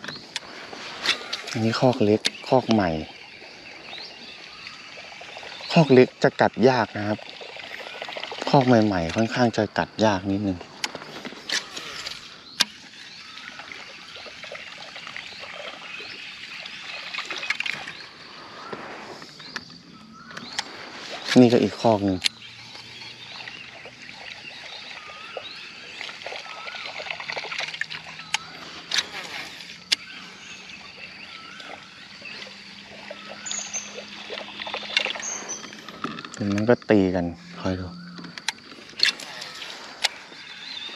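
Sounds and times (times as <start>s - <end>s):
bird chirps: 0.0s - 40.9s
water trickling and dripping: 0.0s - 40.9s.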